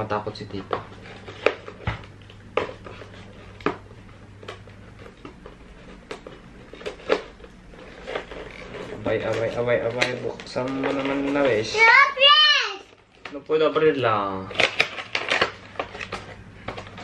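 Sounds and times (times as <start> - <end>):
cardboard and plastic packaging crinkling: 0.5 - 17.0.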